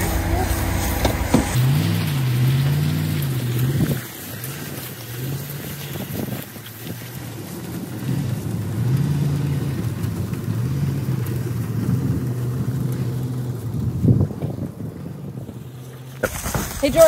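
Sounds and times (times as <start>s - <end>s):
pickup truck engine running: 0.0s - 16.6s.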